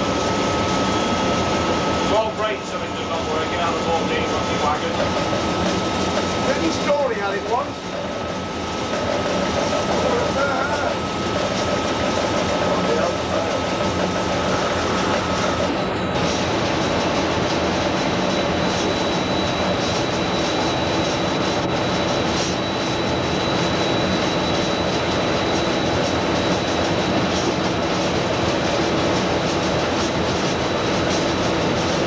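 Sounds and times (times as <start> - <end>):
diesel locomotive engine drone: 0.0 - 32.0
thin high whine: 0.0 - 32.0
train wheel and running noise: 0.0 - 32.0.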